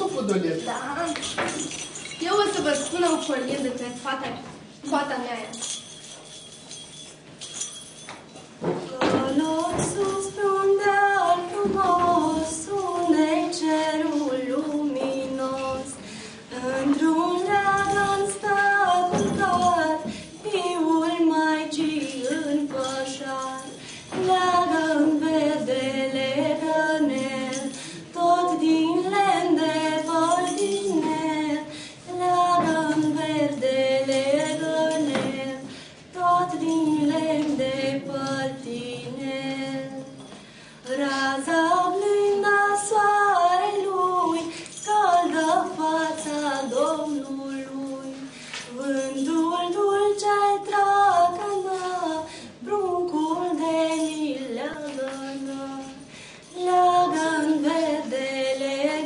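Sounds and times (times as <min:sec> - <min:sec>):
woman singing unaccompanied: 0:08.6 - 0:59.0.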